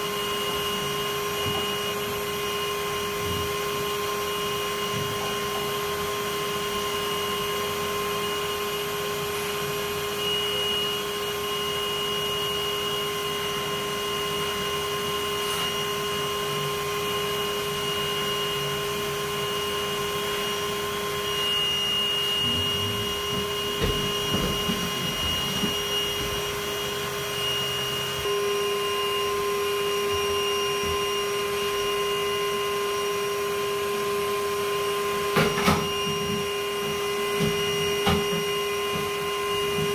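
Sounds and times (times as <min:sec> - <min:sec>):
vacuum whine: 0:00.0 - 0:39.9.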